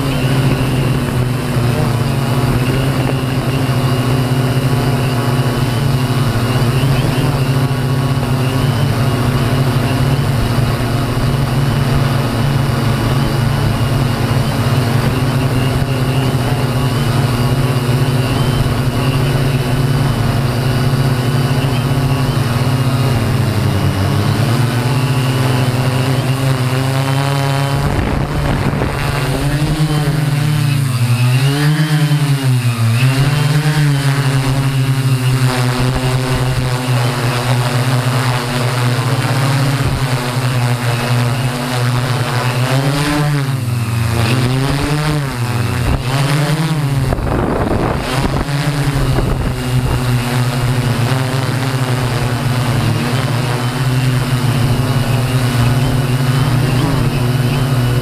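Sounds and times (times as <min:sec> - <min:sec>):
drone motors and propellers buzzing: 0:00.0 - 0:58.0.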